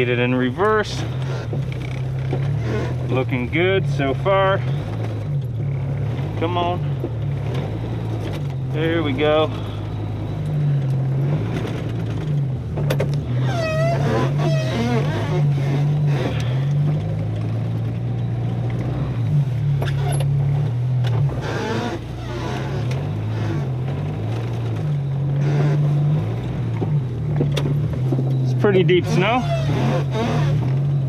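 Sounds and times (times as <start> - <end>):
engine revving under load: 0.0 - 31.0.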